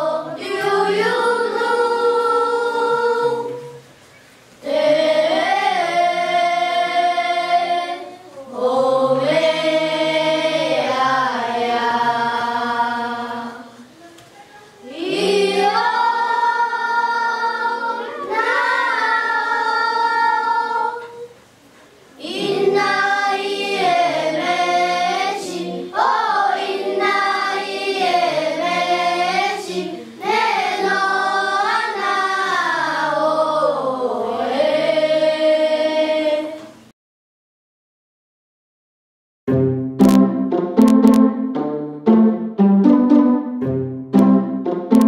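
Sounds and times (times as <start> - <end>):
choir singing unaccompanied: 0.0 - 3.9, 4.6 - 14.0, 14.8 - 21.4, 22.2 - 36.9, 43.0 - 45.0.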